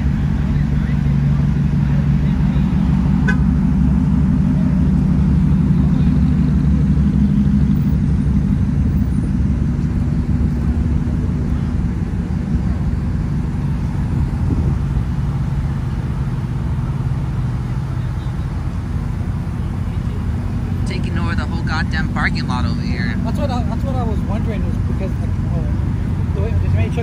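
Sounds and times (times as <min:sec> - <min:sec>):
pickup truck engine rumble: 0:00.0 - 0:27.0.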